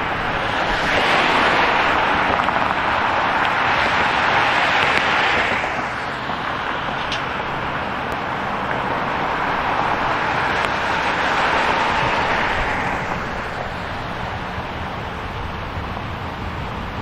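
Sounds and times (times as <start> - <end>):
cars passing with tyre noise: 0.0 - 17.0.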